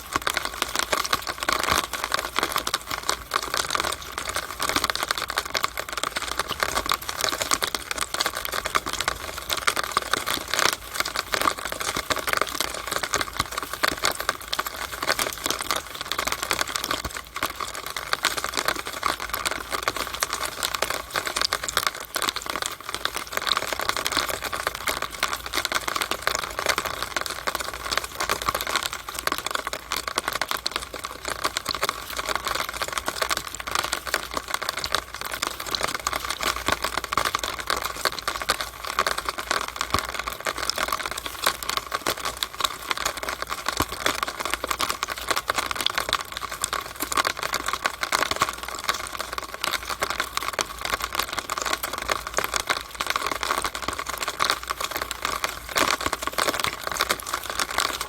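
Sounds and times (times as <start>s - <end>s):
rainwater dripping in downspout: 0.0s - 58.0s.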